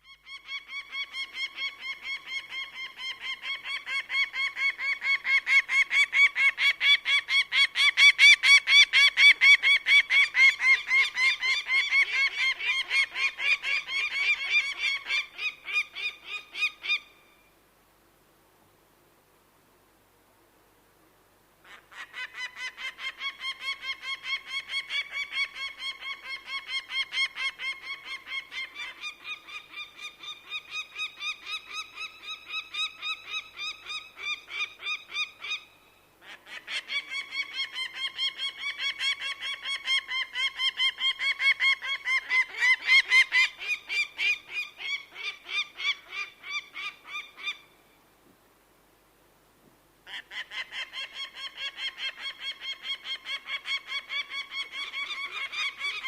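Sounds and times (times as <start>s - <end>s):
bird of prey calling: 0.0s - 17.5s, 21.6s - 47.9s, 50.1s - 56.0s.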